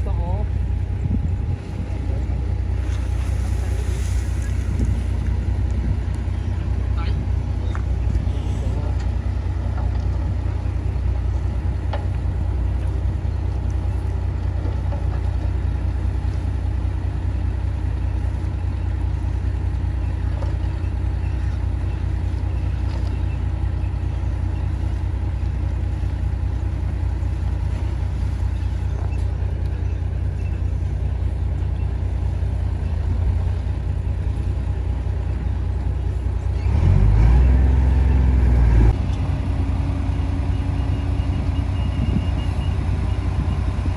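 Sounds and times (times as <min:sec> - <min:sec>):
diesel machinery rumbling: 0:00.0 - 0:43.9.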